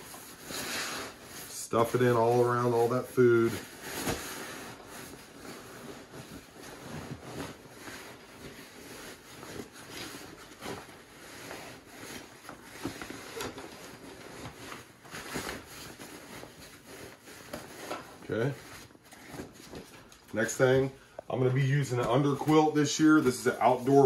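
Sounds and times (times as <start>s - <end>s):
nylon fabric rustling: 0.0s - 24.0s.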